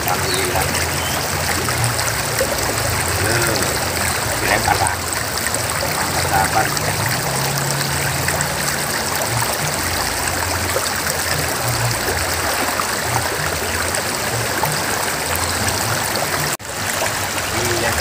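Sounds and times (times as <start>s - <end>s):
river flowing over rocks: 0.0s - 18.0s.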